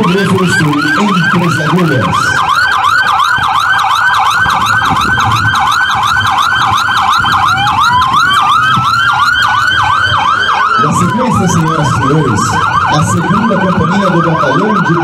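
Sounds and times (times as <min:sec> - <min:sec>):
police siren fast yelp: 0:00.0 - 0:15.0
siren slow rising wail: 0:00.0 - 0:15.0.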